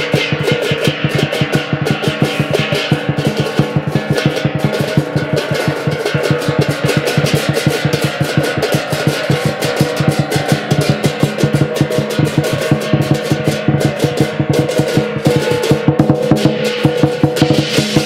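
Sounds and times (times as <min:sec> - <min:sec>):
drum beaten fast: 0:00.0 - 0:18.0.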